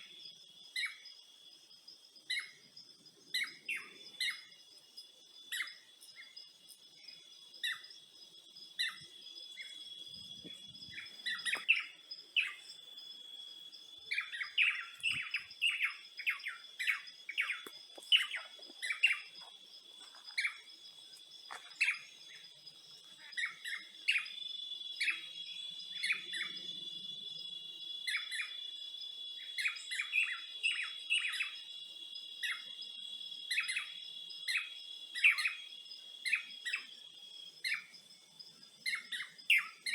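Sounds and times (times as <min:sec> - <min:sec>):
small birds chirping: 0:00.0 - 0:39.9
high-pitched insect drone: 0:02.4 - 0:39.9.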